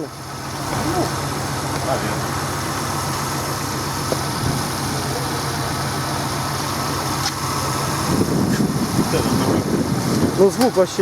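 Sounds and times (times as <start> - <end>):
car engine idling quietly: 0.0 - 11.0.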